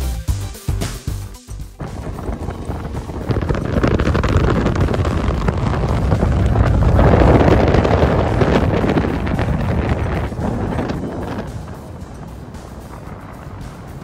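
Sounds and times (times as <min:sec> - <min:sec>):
water rushing past hull: 0:01.8 - 0:14.0
wind buffeting microphone: 0:01.8 - 0:14.0.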